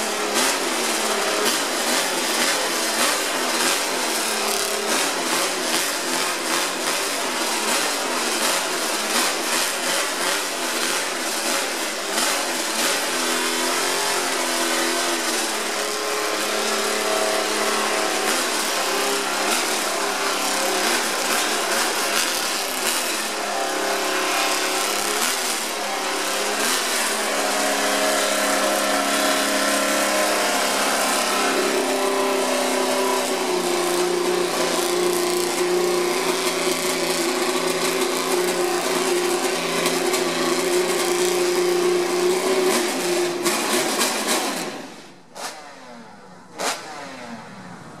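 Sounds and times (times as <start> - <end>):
racing car engine running: 0.0 - 48.0.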